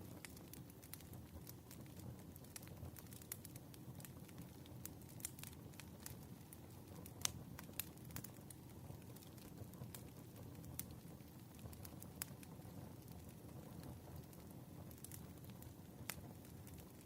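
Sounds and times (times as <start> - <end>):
firewood crackling: 0.0 - 17.0.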